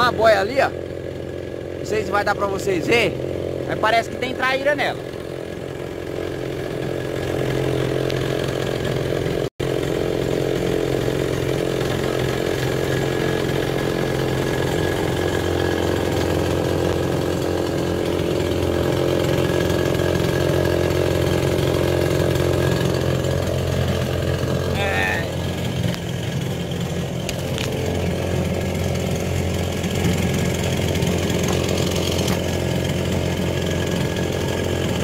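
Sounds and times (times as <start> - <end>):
two-stroke outboard engine running: 0.0 - 35.0.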